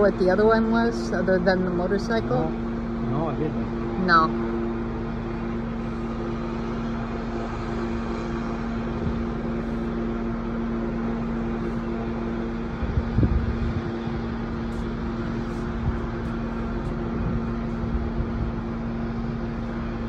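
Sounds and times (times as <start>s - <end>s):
helicopter engine and rotor hum: 0.0s - 20.0s.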